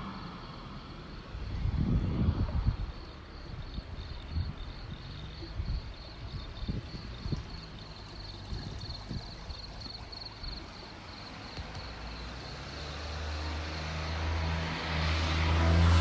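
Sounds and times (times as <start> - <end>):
car approaching: 0.0 - 16.0.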